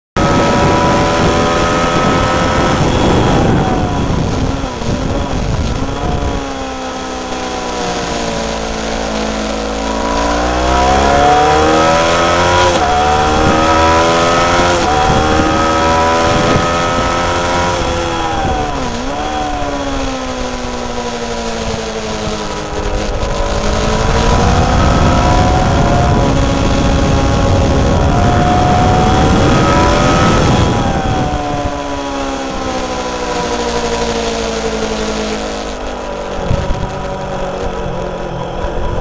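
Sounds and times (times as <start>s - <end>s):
motorcycle engine: 0.0s - 39.0s
heavy wind noise: 0.2s - 39.0s.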